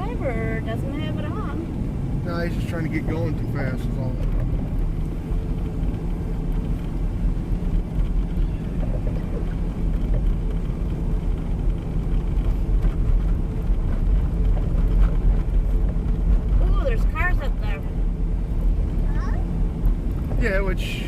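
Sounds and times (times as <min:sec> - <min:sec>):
vehicle engine and tyre noise: 0:00.0 - 0:21.0.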